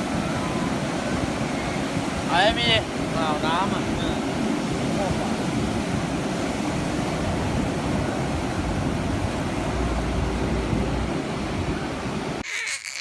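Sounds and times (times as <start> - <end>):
wind rumbling on microphone: 0.0 - 12.4
sea surf washing on shore: 0.0 - 12.5.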